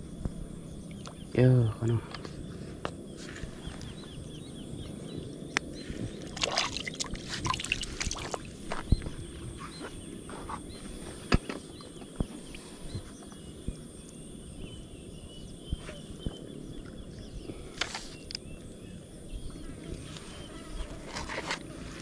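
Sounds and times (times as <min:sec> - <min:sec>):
high insect drone: 0:00.0 - 0:22.0
faint bird chirps: 0:00.1 - 0:06.9, 0:07.6 - 0:21.0.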